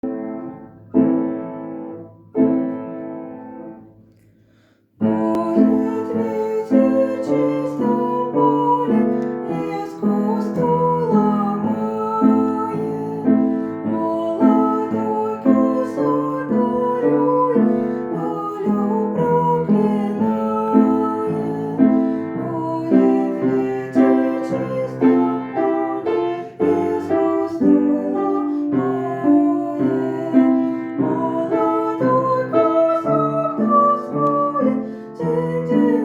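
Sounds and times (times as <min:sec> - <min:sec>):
piano chords: 0:00.0 - 0:36.0.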